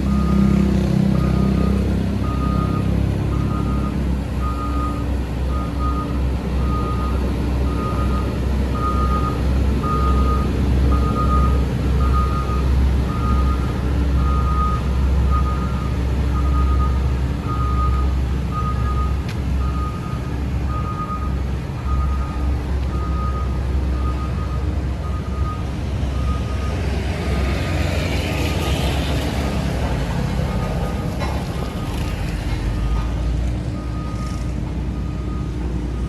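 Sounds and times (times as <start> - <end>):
reversing alarm beeping: 0.0 - 26.8, 33.7 - 36.0
diesel engine rumble: 0.0 - 36.0.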